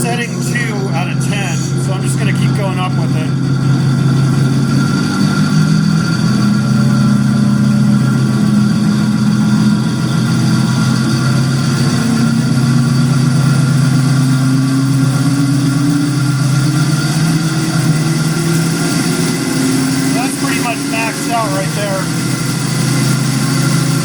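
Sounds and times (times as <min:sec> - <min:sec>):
diesel engine through loudspeaker: 0:00.0 - 0:24.0.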